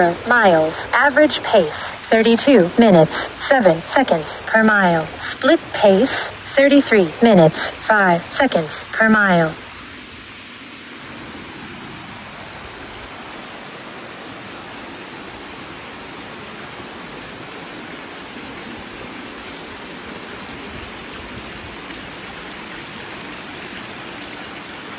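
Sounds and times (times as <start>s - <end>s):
creek water flowing over rocks: 0.0s - 24.9s.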